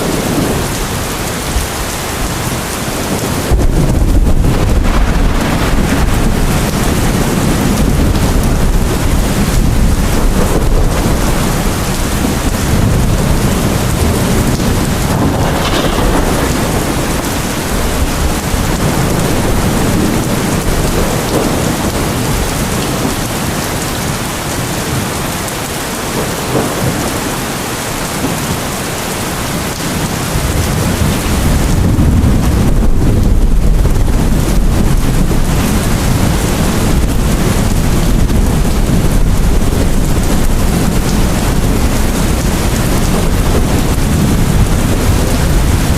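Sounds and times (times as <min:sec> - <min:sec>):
deep rumble of thunder: 0:00.0 - 0:28.6, 0:29.3 - 0:45.9
heavy rain falling: 0:00.0 - 0:45.9.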